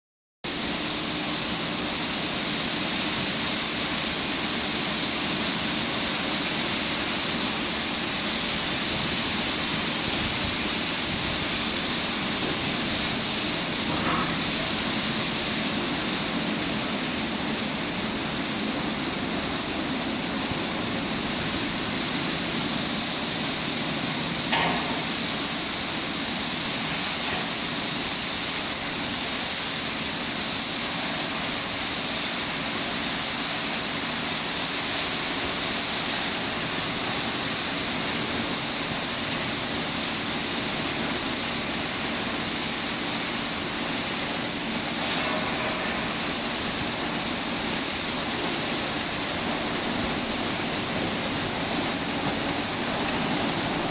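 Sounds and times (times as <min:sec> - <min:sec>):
car wash motors and brushes whirring: 0:00.5 - 0:53.9
water spraying: 0:00.5 - 0:53.9.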